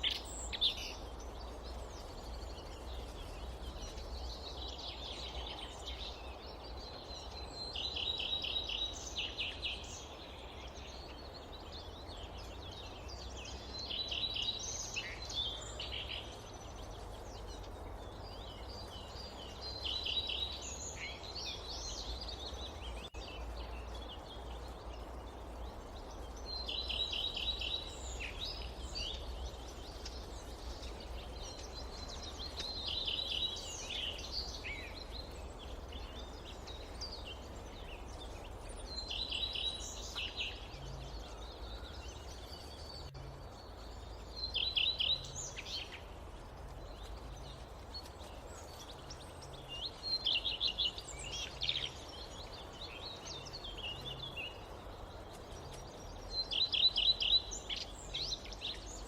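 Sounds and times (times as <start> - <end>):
background hiss: 0.0 - 59.0
songbird singing with trill: 0.0 - 59.0.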